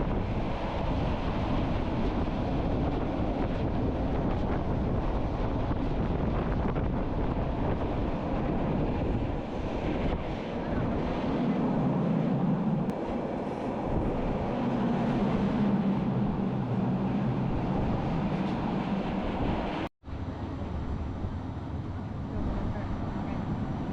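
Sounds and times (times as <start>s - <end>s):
train rumbling along track: 0.0s - 23.9s
wind buffeting microphone: 0.0s - 23.9s.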